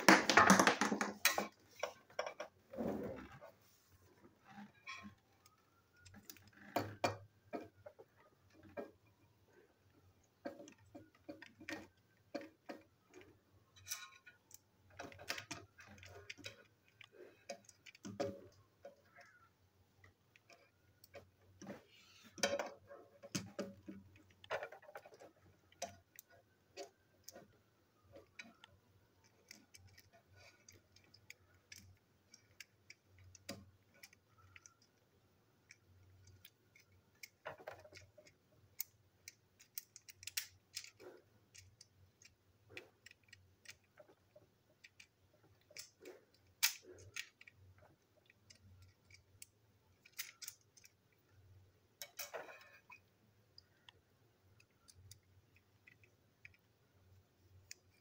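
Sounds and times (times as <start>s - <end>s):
plastic toy parts clicking on tabletop: 9.8s - 58.0s.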